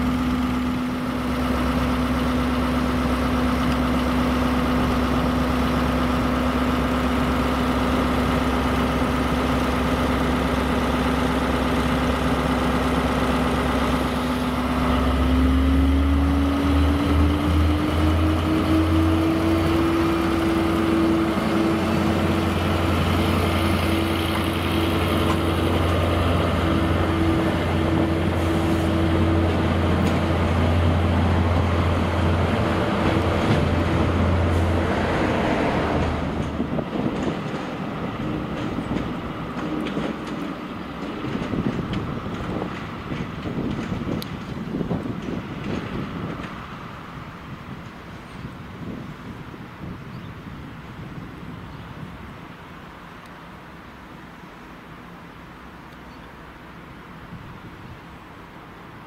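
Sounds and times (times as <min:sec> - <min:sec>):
diesel locomotive engines idling: 0:00.0 - 0:59.0.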